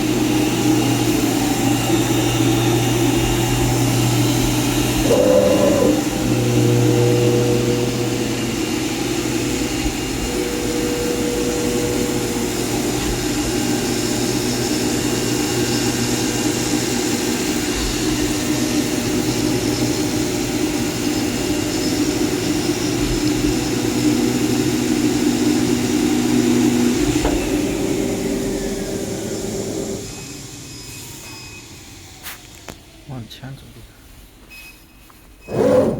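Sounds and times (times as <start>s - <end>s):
cutting machine droning and whining: 0.0s - 33.1s.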